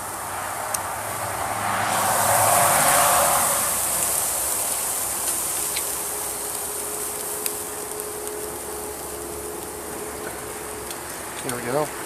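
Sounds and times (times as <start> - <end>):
burger patties sizzling: 0.0 - 12.0
fat popping and crackling: 2.2 - 12.0.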